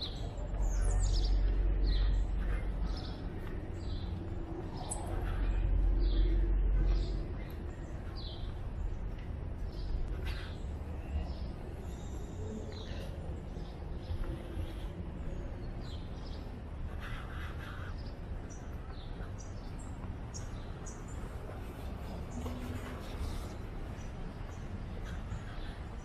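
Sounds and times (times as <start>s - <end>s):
birds chirping: 0.0s - 26.0s
low street rumble: 0.0s - 26.0s.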